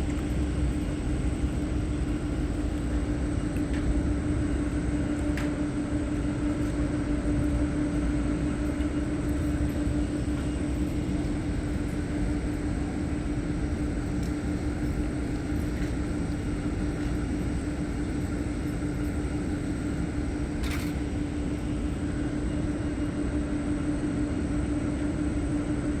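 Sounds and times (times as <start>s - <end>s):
low mechanical rumble with hum: 0.0s - 26.0s.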